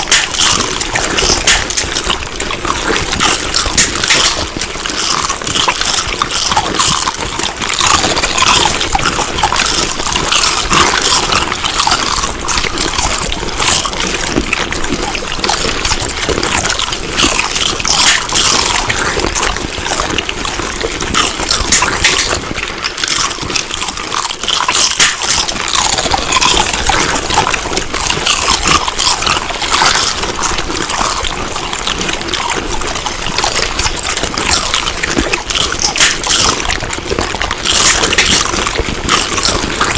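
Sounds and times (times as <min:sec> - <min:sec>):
wet chewing sounds: 0:00.0 - 0:39.9.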